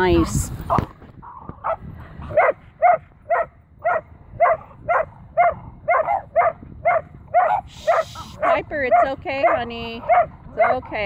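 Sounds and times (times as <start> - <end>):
dog barking: 0.7 - 11.0.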